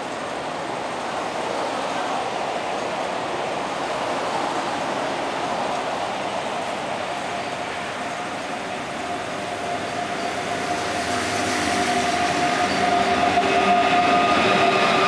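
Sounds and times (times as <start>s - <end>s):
train running through station: 0.0s - 15.0s.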